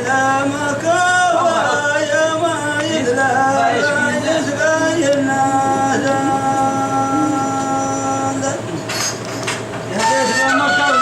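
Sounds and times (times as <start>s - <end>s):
men singing unaccompanied: 0.0s - 8.8s, 9.9s - 11.0s.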